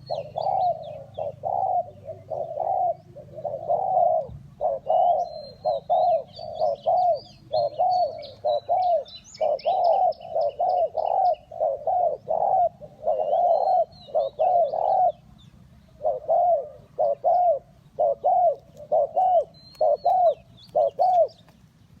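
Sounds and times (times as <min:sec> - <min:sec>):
doves cooing: 0:00.0 - 0:21.6
small birds chirping: 0:00.0 - 0:22.0.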